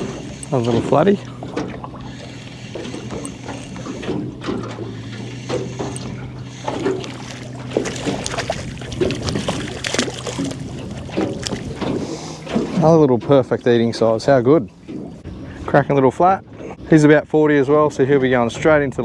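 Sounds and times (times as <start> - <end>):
clicks and knocks aboard: 0.0 - 15.3
water splashing: 0.0 - 15.5
boat motor humming: 0.0 - 17.6.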